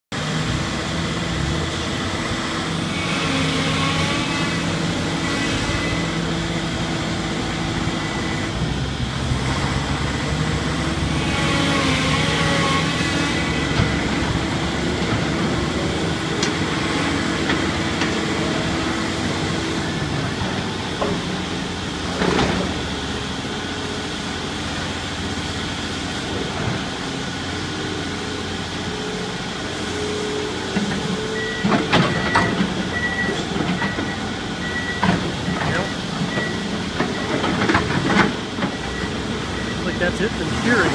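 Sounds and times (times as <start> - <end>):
excavator engine running: 0.2 - 40.9.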